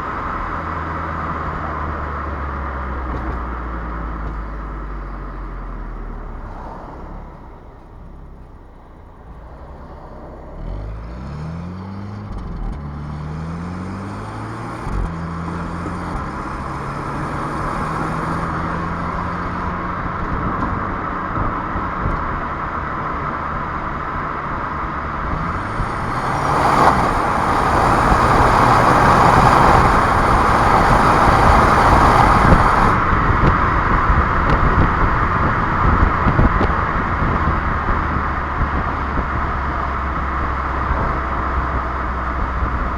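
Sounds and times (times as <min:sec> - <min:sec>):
car engine upshifting: 0:00.0 - 0:41.8
road and wind noise rush: 0:00.0 - 0:42.9.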